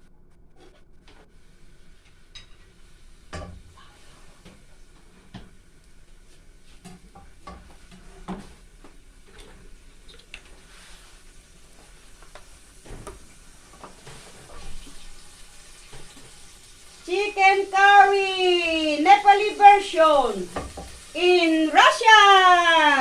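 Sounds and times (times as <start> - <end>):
oil sizzling in a saucepan: 1.4 - 23.0.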